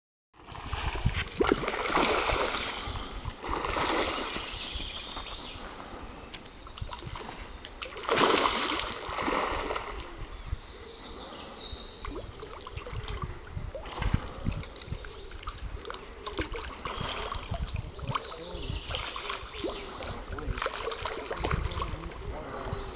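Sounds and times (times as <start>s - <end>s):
fish splashing in shallow water: 0.4s - 5.4s, 6.3s - 10.3s, 11.9s - 22.9s.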